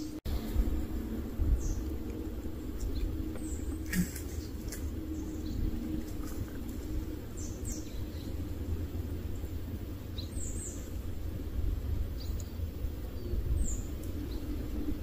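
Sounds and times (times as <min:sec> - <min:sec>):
steady low rumble: 0:00.0 - 0:15.0
small birds chirping: 0:01.4 - 0:11.4, 0:12.0 - 0:15.0.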